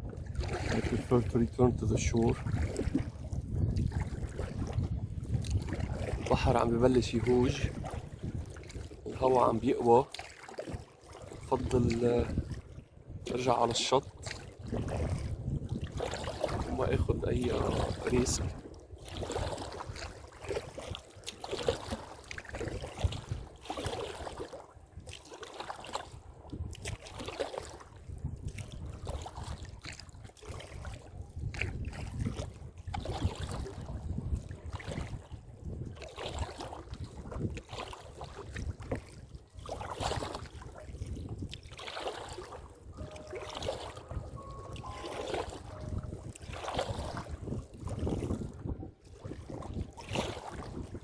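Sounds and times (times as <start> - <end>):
wind buffeting microphone: 0.0 - 10.1, 11.2 - 25.2, 25.9 - 51.0
paddle splashes: 0.0 - 51.0
water slapping hull: 0.0 - 51.0.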